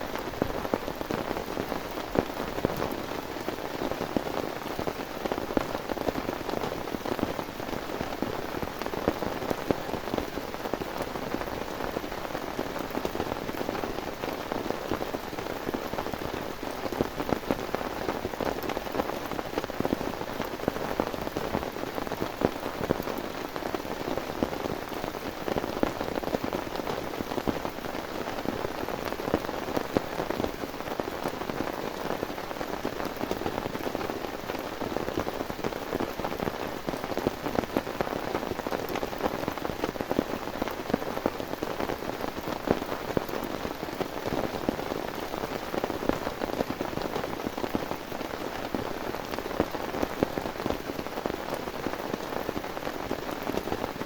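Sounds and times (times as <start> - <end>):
heavy rain patter: 0.0 - 54.0.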